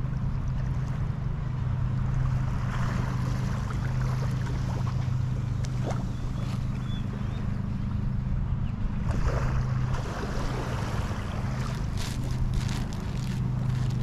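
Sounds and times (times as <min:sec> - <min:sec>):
low engine-like hum: 0:00.0 - 0:14.0
wind: 0:00.0 - 0:14.0.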